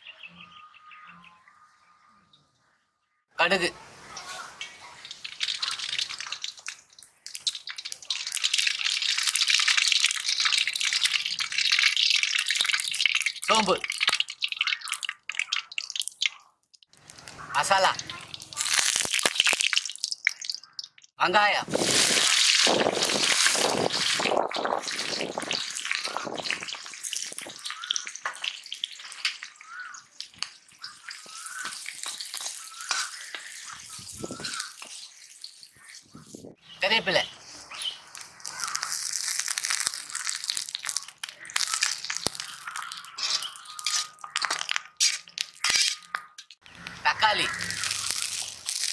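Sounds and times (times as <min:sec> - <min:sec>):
mustard seeds spluttering in oil: 0:04.6 - 0:21.1, 0:21.7 - 0:36.3, 0:37.7 - 0:48.9.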